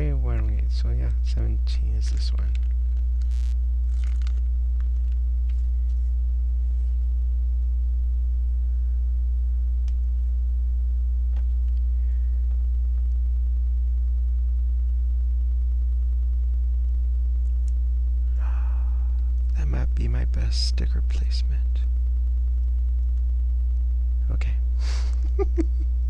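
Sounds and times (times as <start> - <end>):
low electrical mains hum: 0.0 - 26.0.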